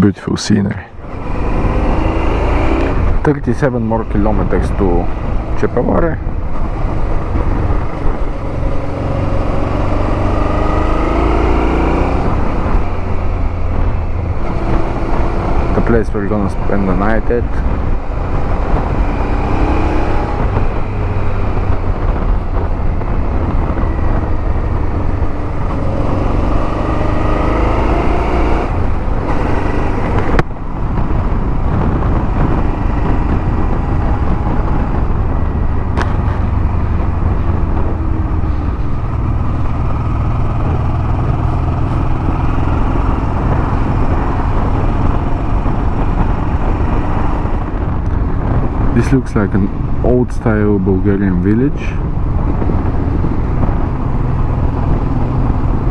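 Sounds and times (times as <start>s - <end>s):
wind and road noise: 0.0s - 55.9s
motorcycle engine: 0.9s - 55.9s.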